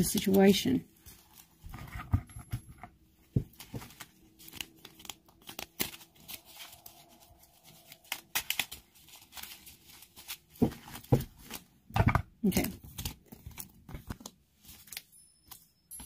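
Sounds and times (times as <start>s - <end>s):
cards being shuffled: 0.0s - 15.6s.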